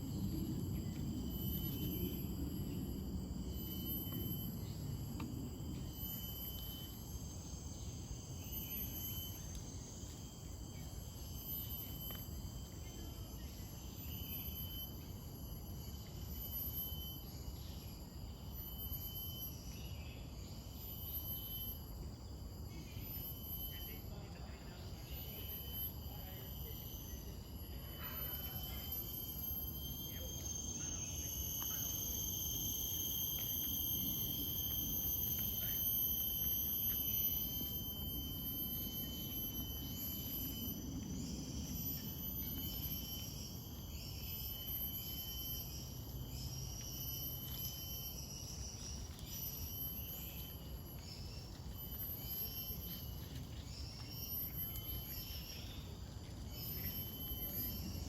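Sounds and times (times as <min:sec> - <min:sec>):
insects shrilling in high tones: 0:00.0 - 0:58.0
pulsing insect call: 0:00.0 - 0:58.0.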